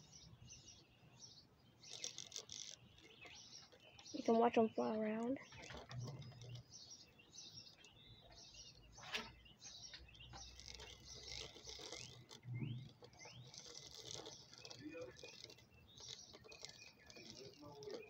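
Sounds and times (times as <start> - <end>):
birds chirping: 0.0 - 18.0
distant traffic rumble: 0.0 - 18.0.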